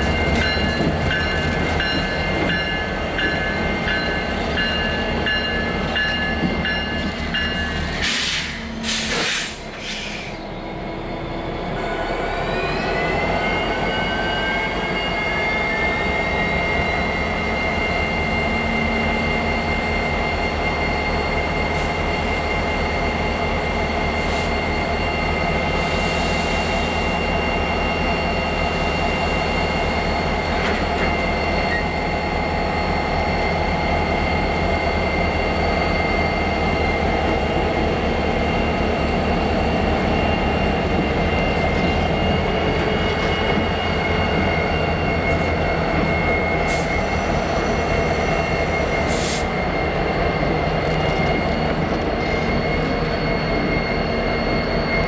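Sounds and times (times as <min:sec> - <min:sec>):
diesel train low rumble: 0:00.0 - 0:55.0.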